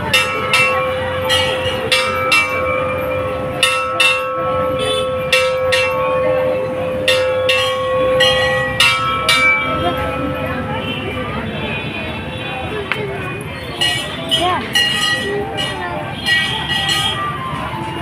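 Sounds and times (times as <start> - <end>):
metal bell strikes: 0.0 - 11.0, 13.8 - 17.3.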